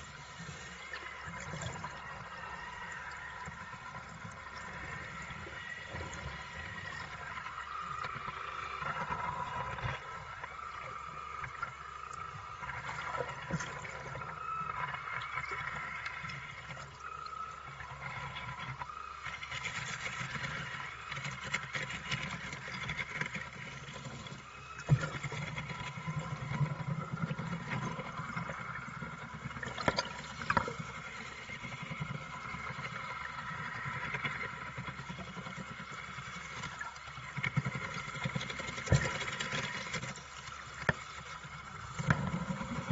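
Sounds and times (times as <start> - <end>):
rotating brush churning water: 0.0 - 42.9.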